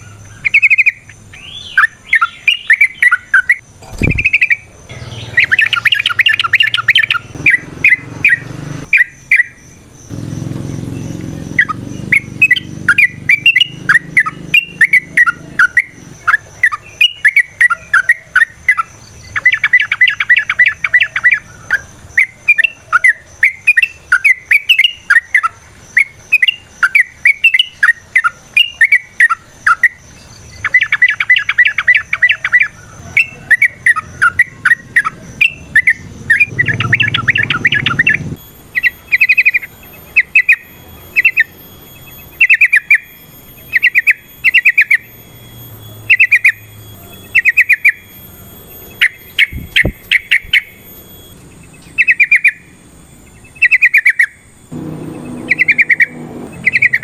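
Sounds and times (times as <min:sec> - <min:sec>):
bulbul chattering calls: 0:00.0 - 0:57.0.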